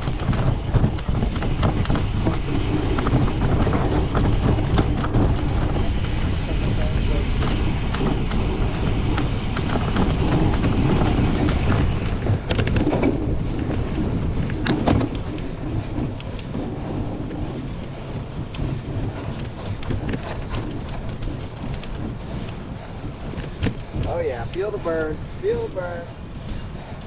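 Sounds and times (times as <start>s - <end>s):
bike rattling over rough ground: 0.0s - 27.0s
wind rushing over microphone: 0.0s - 27.0s.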